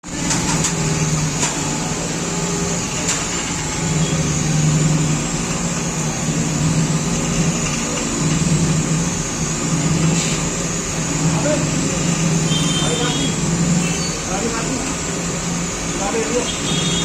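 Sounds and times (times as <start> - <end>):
band saw running: 0.0 - 17.0.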